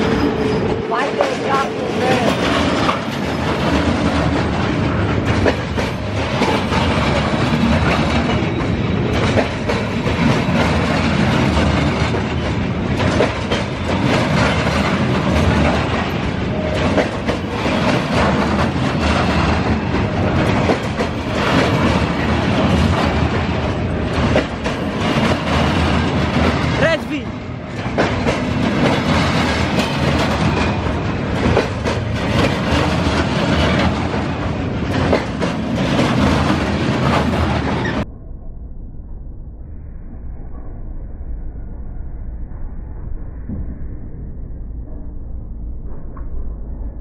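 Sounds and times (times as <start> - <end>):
train wheels rumbling on rail: 0.0 - 38.1.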